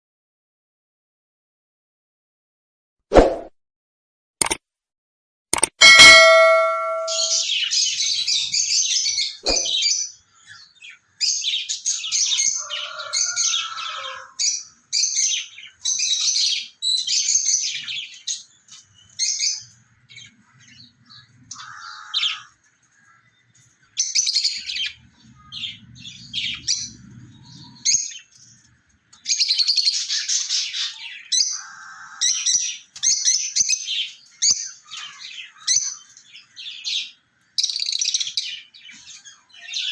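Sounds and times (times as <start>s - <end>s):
lovebirds chirping: 5.9s - 39.9s.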